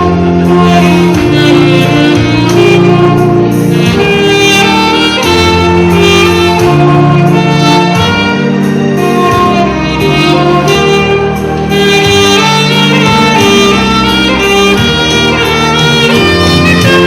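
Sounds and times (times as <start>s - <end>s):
musical accompaniment with bass line: 0.0s - 17.0s
saxophone melody: 0.0s - 17.0s.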